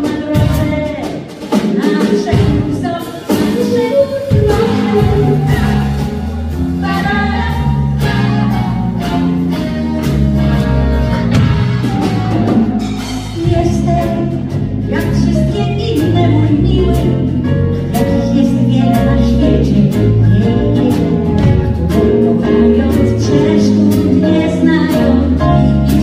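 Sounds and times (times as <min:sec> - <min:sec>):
woman singing: 0:00.0 - 0:06.0, 0:06.8 - 0:08.7, 0:12.4 - 0:26.0
live pop band playing: 0:00.0 - 0:26.0.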